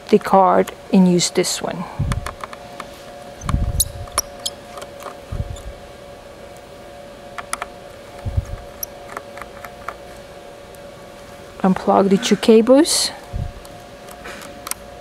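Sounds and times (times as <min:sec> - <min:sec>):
steady high-pitched hum: 0:00.0 - 0:15.0.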